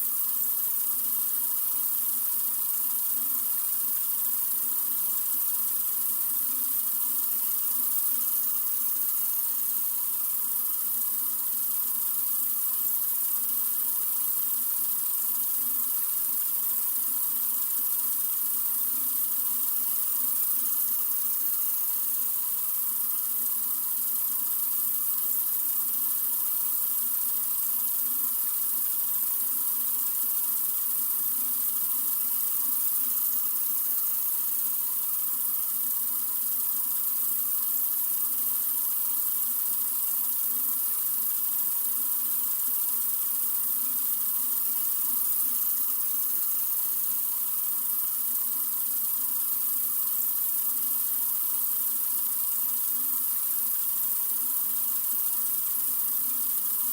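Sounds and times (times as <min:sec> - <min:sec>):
faucet water running: 0:00.1 - 0:56.9.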